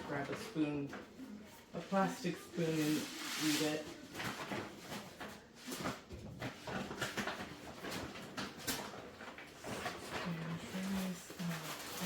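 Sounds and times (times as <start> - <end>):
grocery packages and cans clattering: 0.0 - 1.2, 1.8 - 12.0.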